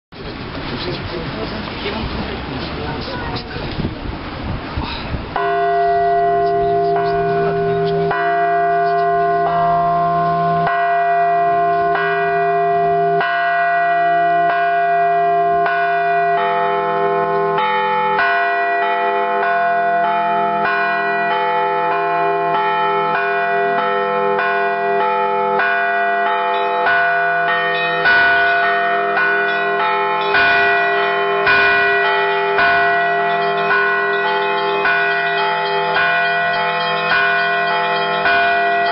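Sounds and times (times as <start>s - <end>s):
church bells ringing: 5.3s - 38.9s
hum of large bells: 5.3s - 38.9s.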